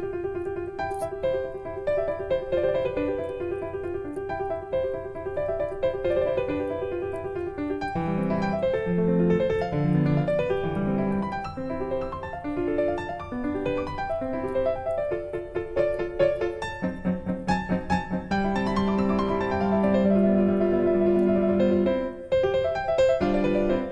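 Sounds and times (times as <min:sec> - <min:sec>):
piano music: 0:00.0 - 0:23.9.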